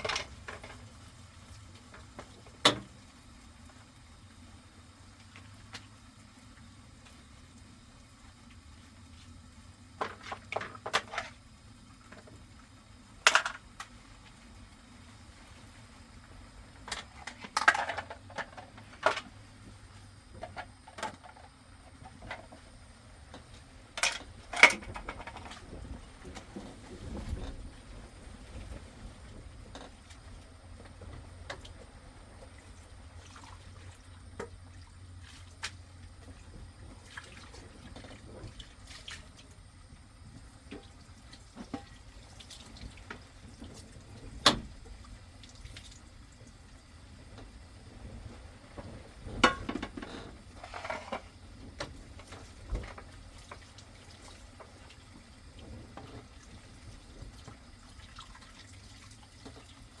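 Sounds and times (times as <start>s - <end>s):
water dripping and trickling: 0.0s - 49.6s, 51.3s - 60.0s.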